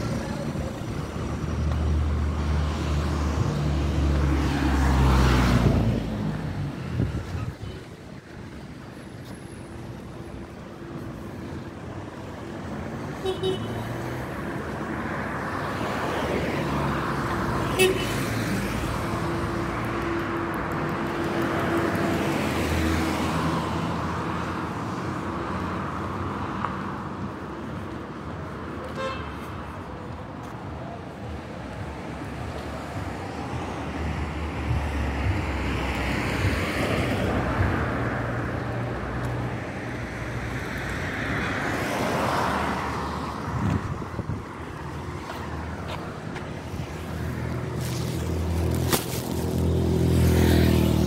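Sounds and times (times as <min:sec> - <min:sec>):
car engines and tyre noise: 0:00.0 - 0:51.0
cars passing: 0:00.0 - 0:51.0.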